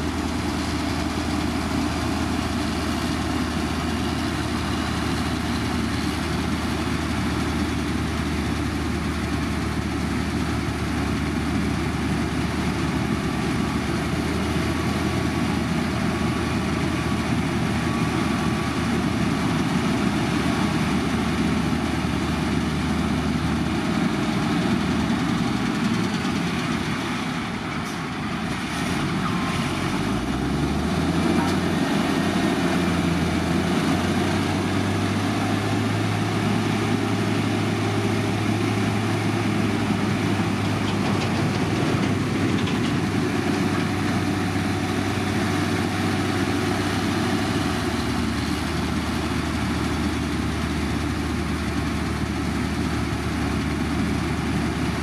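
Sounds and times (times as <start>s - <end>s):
diesel machinery engine hum: 0.0s - 55.0s.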